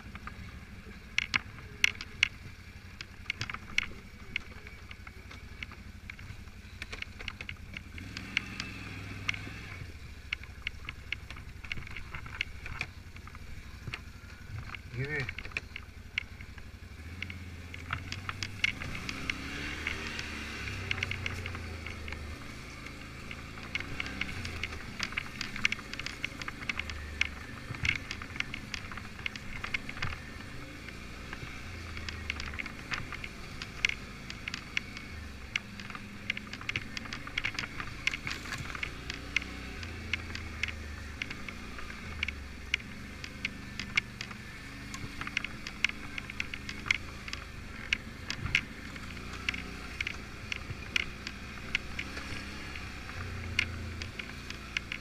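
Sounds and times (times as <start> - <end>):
quad engine running: 0.0 - 55.0
sharp clicks and rattles: 0.0 - 55.0.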